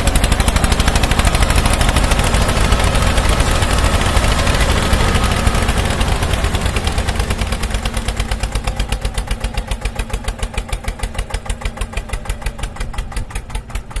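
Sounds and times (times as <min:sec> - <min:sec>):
engine chugging: 0:00.0 - 0:14.0.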